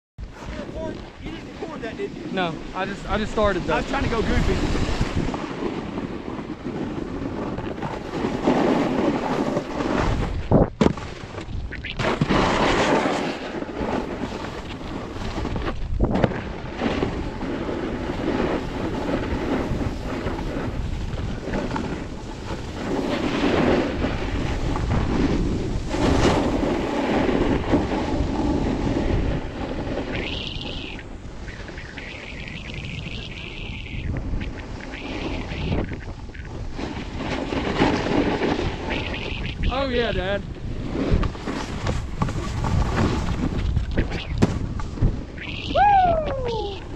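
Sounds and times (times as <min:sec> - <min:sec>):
wind buffeting microphone: 0:00.2 - 0:46.9
ski edges scraping snow: 0:00.3 - 0:15.8, 0:16.4 - 0:39.9, 0:40.5 - 0:45.4.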